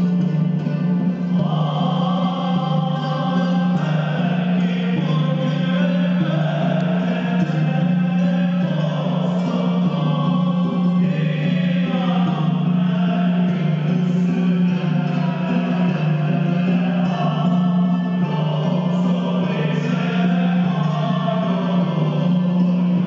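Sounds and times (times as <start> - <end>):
voices chanting together: 0.0 - 23.0.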